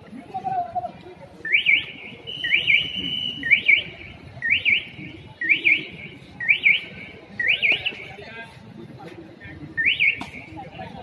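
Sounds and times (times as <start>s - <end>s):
low crowd noise: 0.0s - 11.0s.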